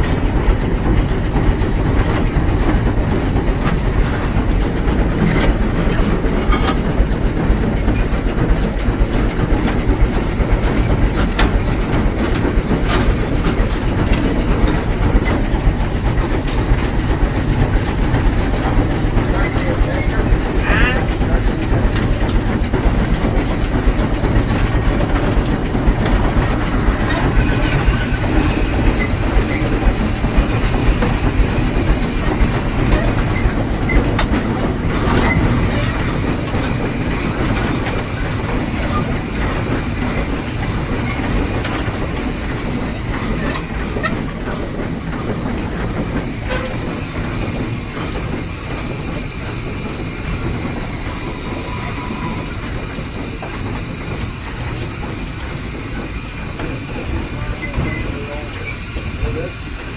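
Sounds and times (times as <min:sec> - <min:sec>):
steam hissing: 0:00.0 - 0:59.9
steam locomotive rumble: 0:00.0 - 0:59.9
wheels clacking over rail joints: 0:00.0 - 0:59.9.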